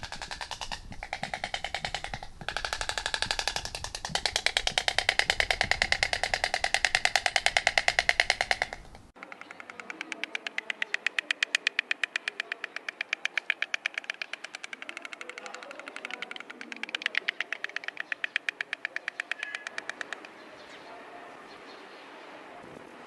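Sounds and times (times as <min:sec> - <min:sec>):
stork clattering its bill: 0:00.0 - 0:21.1.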